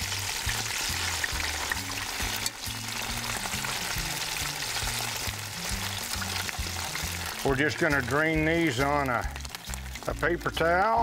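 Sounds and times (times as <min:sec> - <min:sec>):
low background music: 0:00.0 - 0:11.0
steaks sizzling in hot oil: 0:00.0 - 0:11.0.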